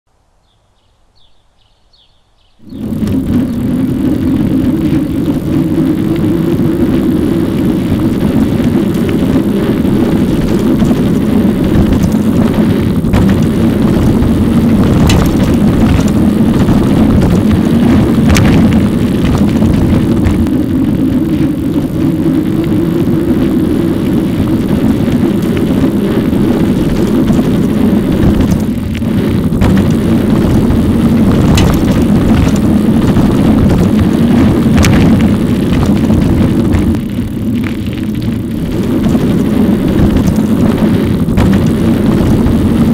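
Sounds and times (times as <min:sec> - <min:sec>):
wind and road noise: 0:02.6 - 0:42.9.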